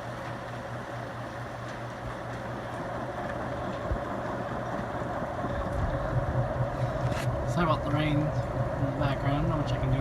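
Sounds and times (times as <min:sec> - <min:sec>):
ceiling fan humming: 0:00.0 - 0:10.0.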